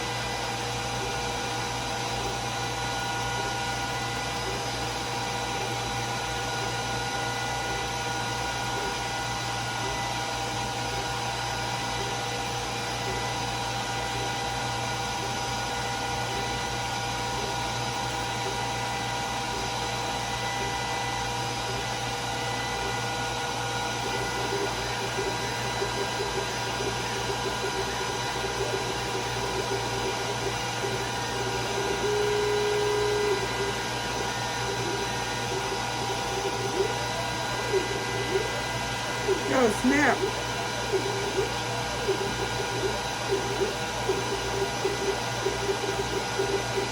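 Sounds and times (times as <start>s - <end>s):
fan and exhaust whir: 0.0s - 46.9s.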